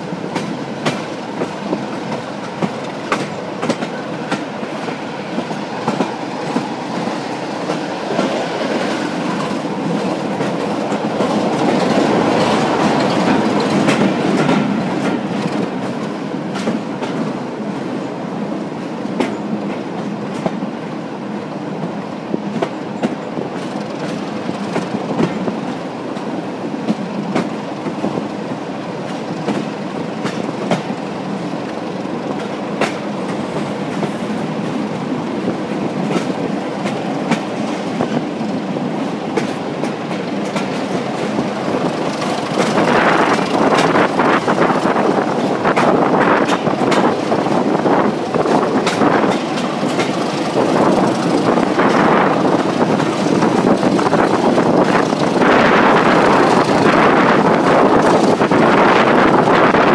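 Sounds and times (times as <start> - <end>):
wheels clacking over rail joints: 0.0 - 18.0, 21.8 - 28.3, 28.9 - 59.9
train rumble and rushing air: 0.0 - 59.9.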